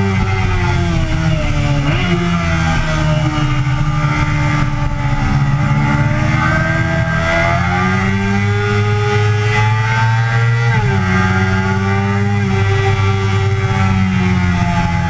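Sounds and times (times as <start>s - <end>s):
motorcycle engine at high revs: 0.0s - 15.0s
wind noise: 0.0s - 15.0s.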